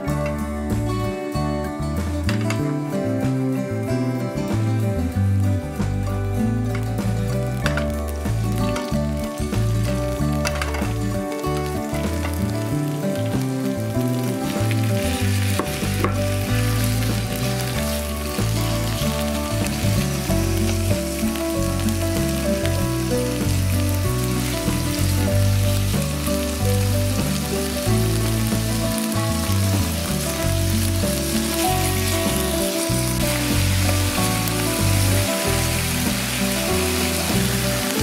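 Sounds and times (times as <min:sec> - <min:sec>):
background music: 0:00.0 - 0:38.0
meat sizzling in a frying pan: 0:05.8 - 0:38.0.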